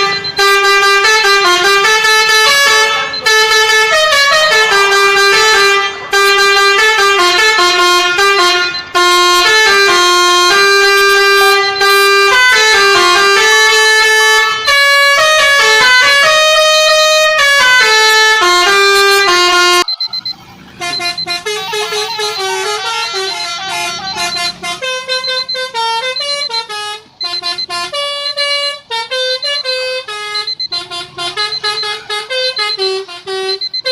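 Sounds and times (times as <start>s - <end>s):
musical truck horn melody: 0.0s - 33.9s.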